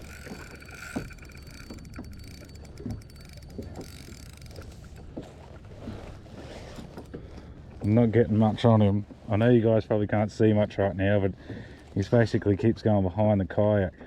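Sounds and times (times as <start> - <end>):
water lapping against kayak hull: 0.0 - 12.4.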